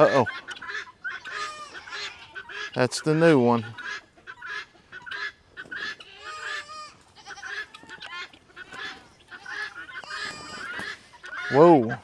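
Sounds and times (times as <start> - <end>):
guineafowl calling harshly: 0.0 - 12.0.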